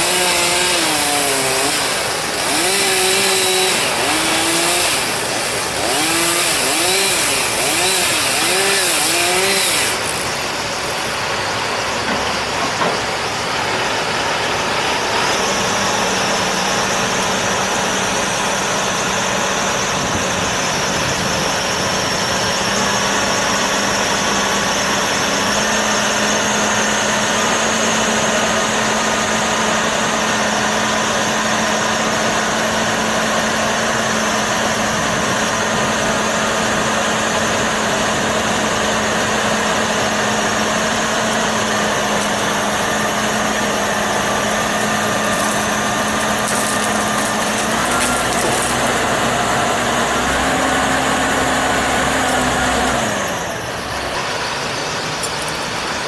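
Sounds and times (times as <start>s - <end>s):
crane engine running: 0.0s - 56.0s.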